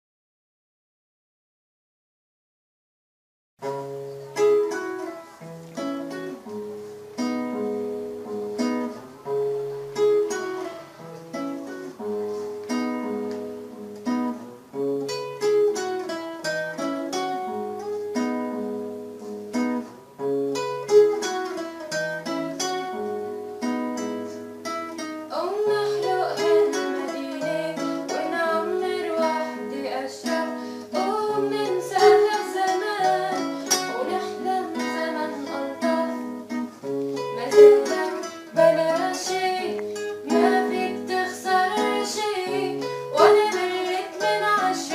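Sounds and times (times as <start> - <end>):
plucked strings melody: 3.6 - 44.9.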